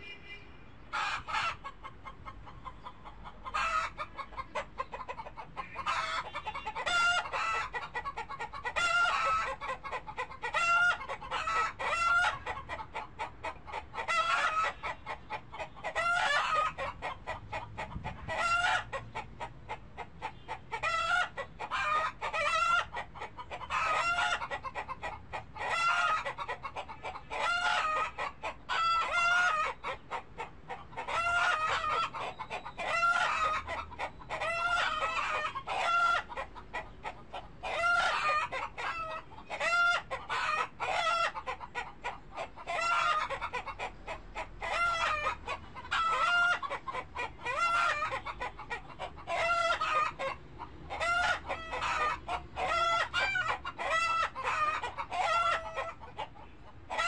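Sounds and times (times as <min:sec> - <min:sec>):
chickens clucking: 0:00.8 - 0:57.0.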